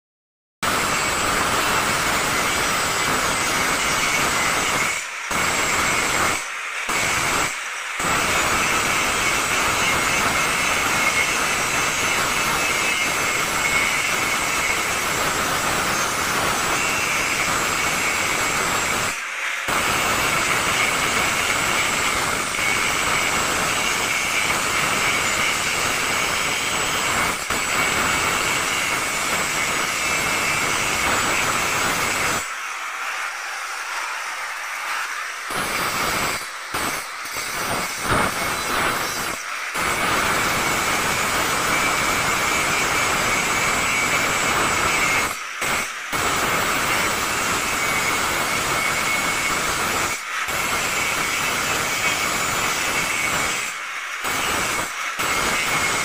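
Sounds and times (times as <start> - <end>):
angle grinder grinding steel: 0.6 - 56.0.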